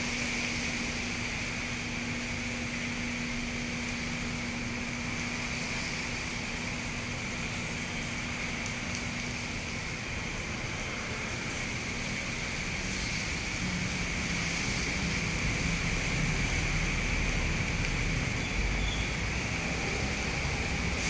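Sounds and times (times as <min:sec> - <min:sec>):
constant high hum: 0:00.0 - 0:21.0
traffic rumble: 0:00.0 - 0:21.0.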